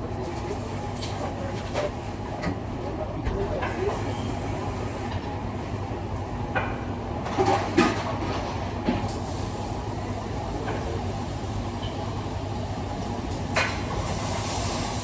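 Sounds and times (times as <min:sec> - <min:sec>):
low rumble of kitchen machinery: 0:00.0 - 0:15.0.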